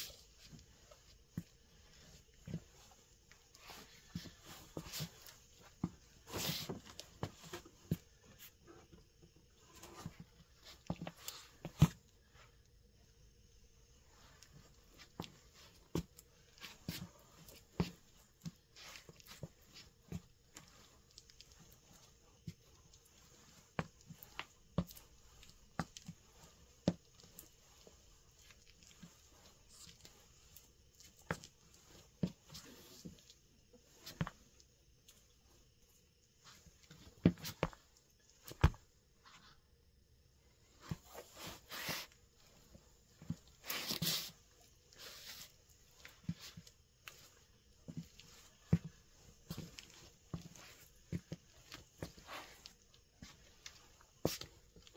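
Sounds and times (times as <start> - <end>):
shoe shuffling scuff: 0.0 - 9.0, 9.7 - 12.0, 14.2 - 21.0, 21.6 - 34.5, 36.4 - 37.8, 38.4 - 39.6, 40.7 - 54.9
sneaker footsteps on cork floor: 0.0 - 12.0, 14.2 - 34.6, 36.4 - 37.8, 38.4 - 39.6, 40.7 - 54.9.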